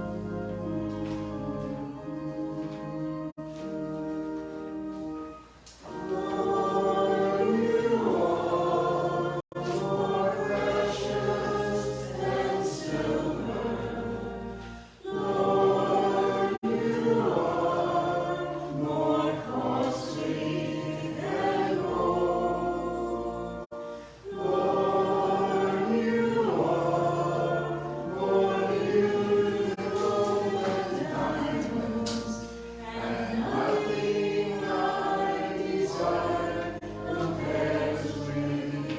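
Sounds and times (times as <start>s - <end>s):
choir singing an anthem: 0.0s - 3.4s, 5.8s - 38.9s.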